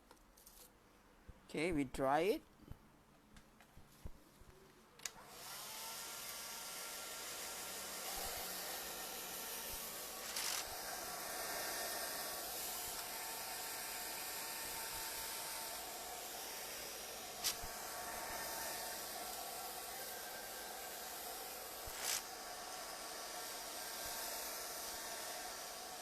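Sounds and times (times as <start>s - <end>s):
hair dryer blowing: 5.1s - 26.0s.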